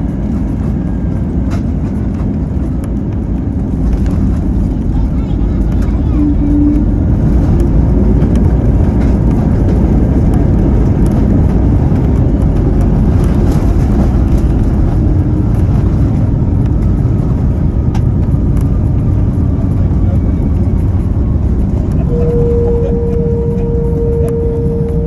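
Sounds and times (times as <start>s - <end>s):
jet engine rumble in cabin: 0.0s - 25.0s
wheels rolling on runway: 0.0s - 25.0s.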